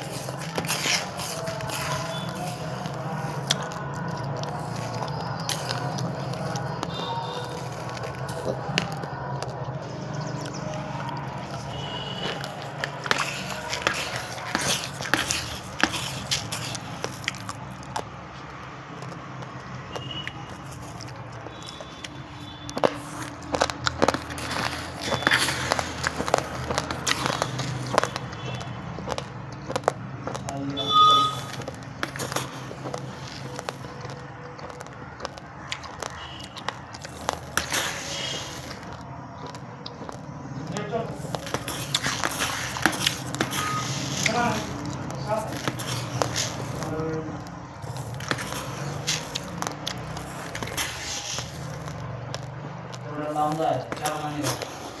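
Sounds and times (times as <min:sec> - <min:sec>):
crunching raw rice grains: 0:00.0 - 0:55.0.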